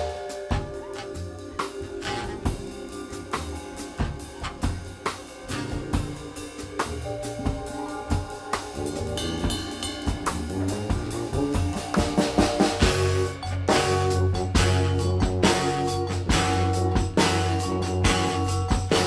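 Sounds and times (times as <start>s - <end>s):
drum kit beat: 0.0s - 19.0s
instrumental live band: 0.0s - 19.0s
low bass line: 0.0s - 19.0s
mallet keyboard notes: 0.0s - 19.0s.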